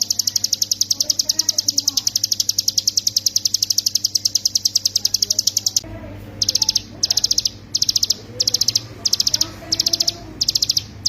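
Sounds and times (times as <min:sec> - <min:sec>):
bird singing rapid trill: 0:00.0 - 0:05.8, 0:06.4 - 0:11.0.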